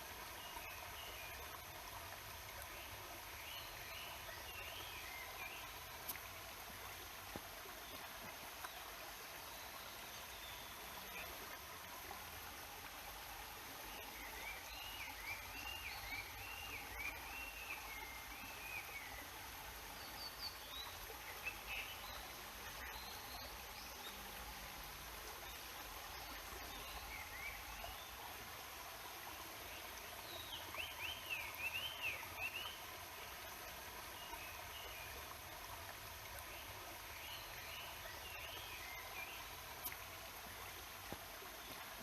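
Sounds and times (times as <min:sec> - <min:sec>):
stream and waterfall rushing: 0:00.0 - 0:42.0.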